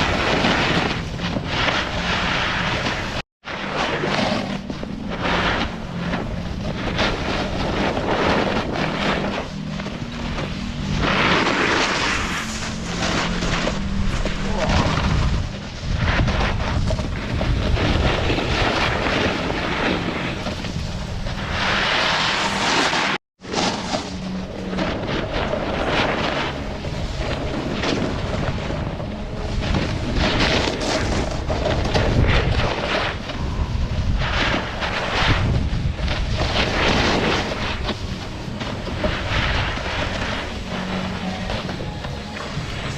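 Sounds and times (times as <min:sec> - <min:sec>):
snowboard scraping on snow: 0:00.0 - 0:42.9
wind noise on microphone: 0:00.0 - 0:42.9.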